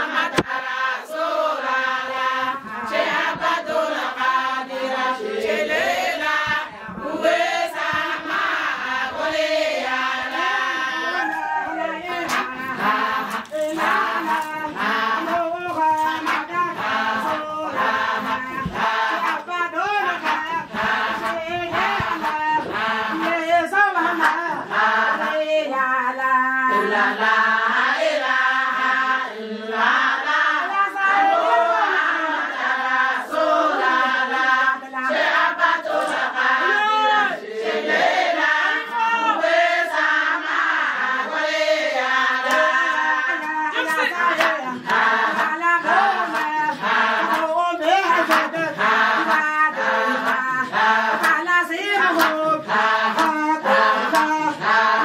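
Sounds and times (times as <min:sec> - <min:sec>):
women singing in unison: 0:00.0 - 0:55.0.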